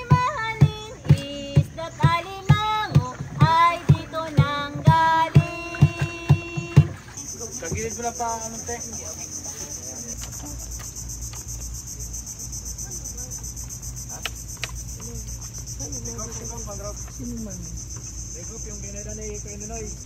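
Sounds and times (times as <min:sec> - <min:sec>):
insect chorus pulsing trill: 0:00.0 - 0:20.0.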